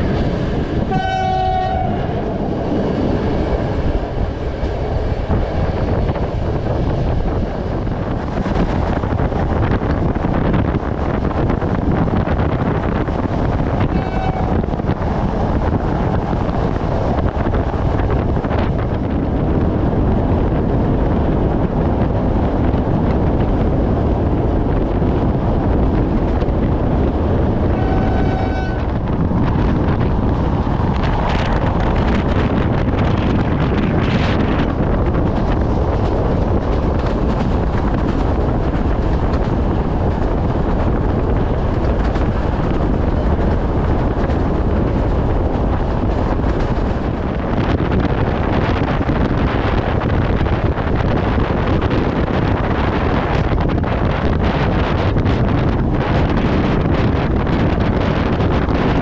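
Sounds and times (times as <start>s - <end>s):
moving train rumble: 0.0s - 59.0s
wind buffeting microphone: 0.0s - 59.0s.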